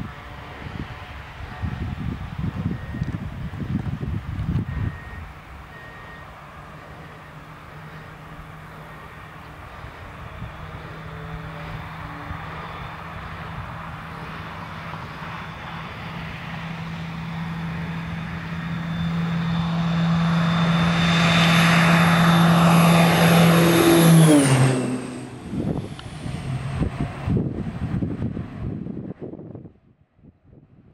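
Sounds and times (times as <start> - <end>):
turboprop plane taking off: 0.0 - 30.9.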